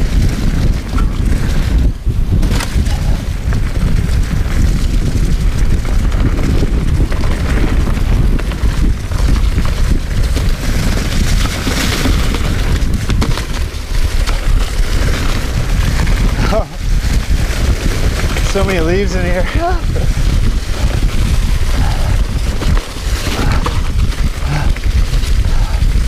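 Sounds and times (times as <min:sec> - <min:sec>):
bike frame rattling: 0:00.0 - 0:26.0
tyres rolling on dirt trail: 0:00.0 - 0:26.0
wind buffeting microphone: 0:00.0 - 0:26.0.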